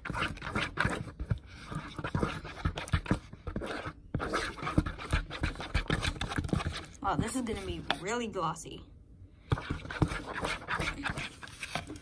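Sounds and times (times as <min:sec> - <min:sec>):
spoon stirring glue in bowl: 0:00.0 - 0:08.6, 0:09.4 - 0:12.0.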